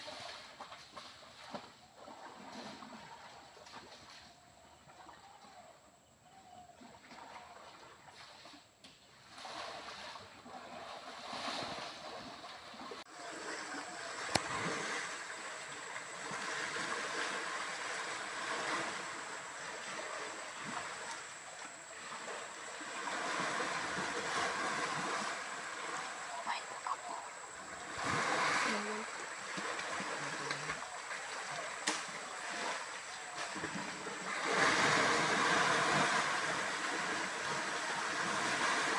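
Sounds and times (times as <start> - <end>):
water splashing and sloshing: 0.0 - 5.7, 6.4 - 38.9
stream flowing: 6.8 - 38.9.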